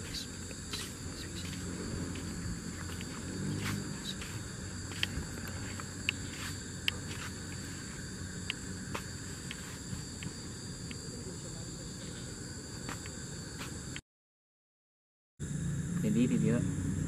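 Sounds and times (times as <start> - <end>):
insects chirring: 0.0 - 14.0, 15.4 - 17.0.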